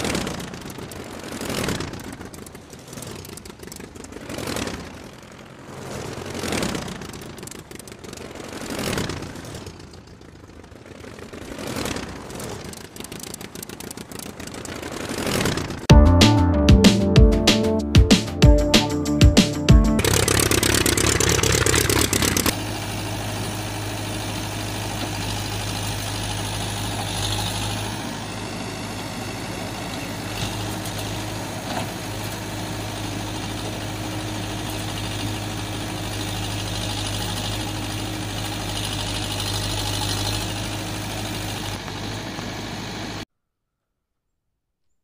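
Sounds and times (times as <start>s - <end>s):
engine idling: 0.0s - 15.9s, 18.2s - 43.2s.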